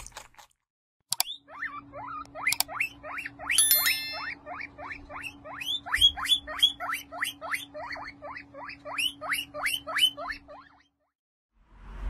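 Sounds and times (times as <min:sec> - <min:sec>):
guinea pig squeaking: 0:01.1 - 0:11.1.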